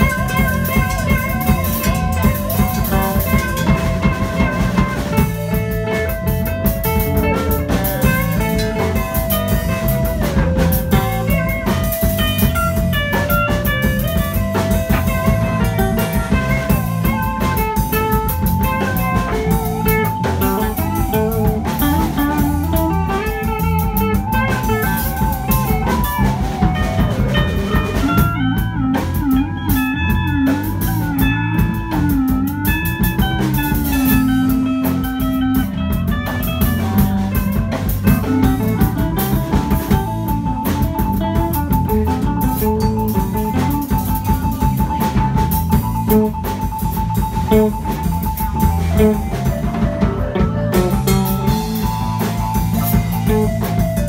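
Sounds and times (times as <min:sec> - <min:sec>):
drum kit beat: 0:00.0 - 0:54.0
lead guitar melody: 0:00.0 - 0:54.0.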